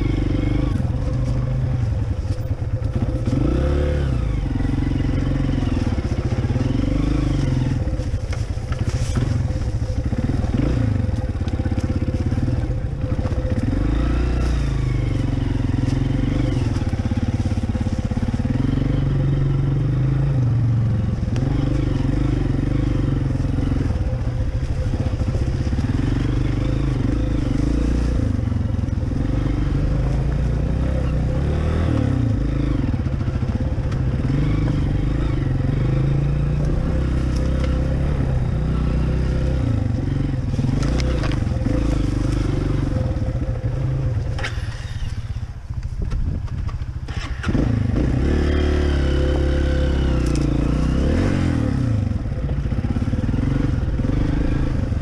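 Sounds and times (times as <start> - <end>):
dirt bike engine revving: 0.0 - 45.7, 47.0 - 55.0.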